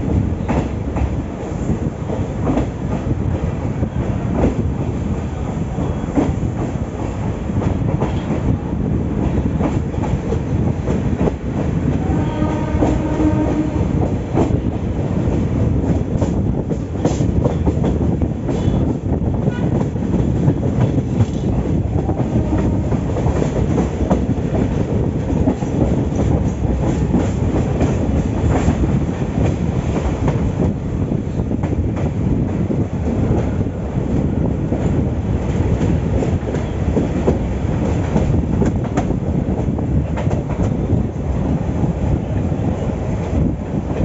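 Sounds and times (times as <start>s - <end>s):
train carriages rumbling: 0.0s - 44.0s
wheels clacking on rails: 0.0s - 44.0s.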